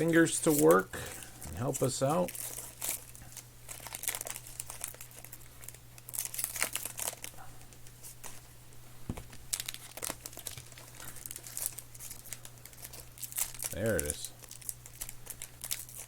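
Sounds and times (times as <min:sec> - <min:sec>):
wrappers torn and crinkled: 0:00.0 - 0:08.3, 0:09.3 - 0:16.0
steady low hum: 0:00.0 - 0:16.0.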